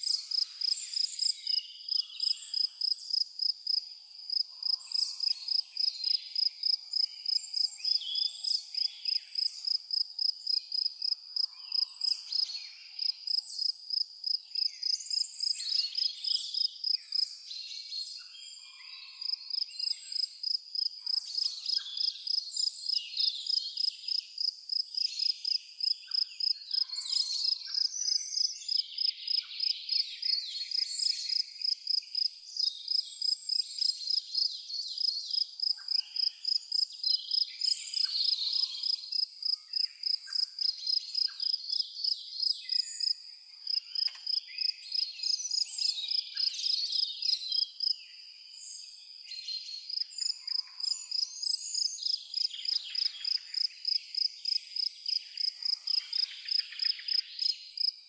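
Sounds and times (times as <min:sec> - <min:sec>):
insect chirping: 0:00.0 - 0:17.5, 0:19.2 - 0:58.0.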